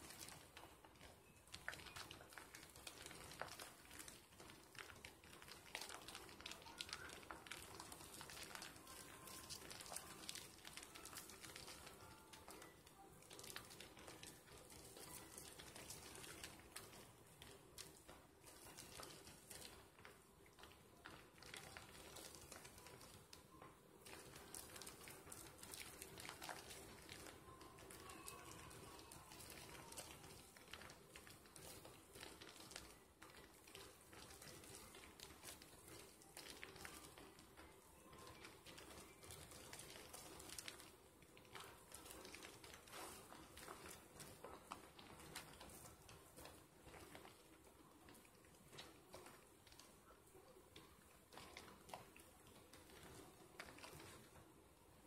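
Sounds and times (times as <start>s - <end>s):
soap lather squishing: 0.0s - 55.0s.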